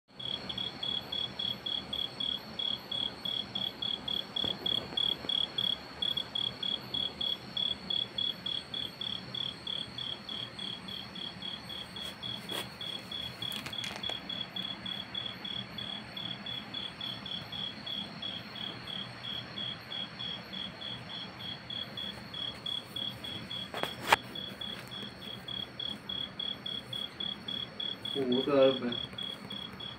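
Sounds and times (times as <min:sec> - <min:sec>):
insect chirping: 0:00.2 - 0:29.9.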